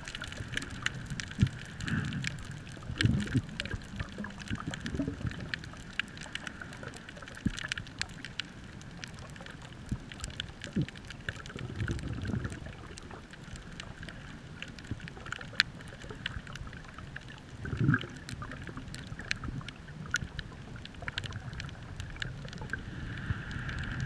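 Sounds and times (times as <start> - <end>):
underwater clicks and crackles: 0.0 - 24.0.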